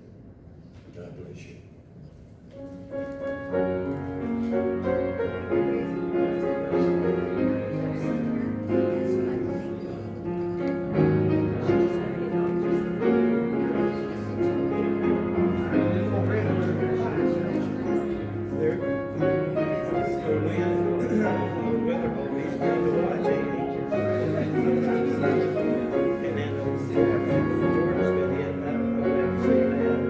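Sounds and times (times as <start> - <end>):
piano sustained chords: 3.4 - 30.0.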